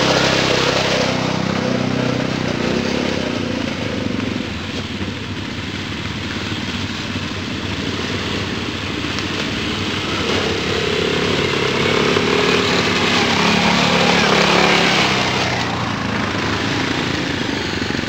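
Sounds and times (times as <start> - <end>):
quad bike engines: 0.0 - 18.0.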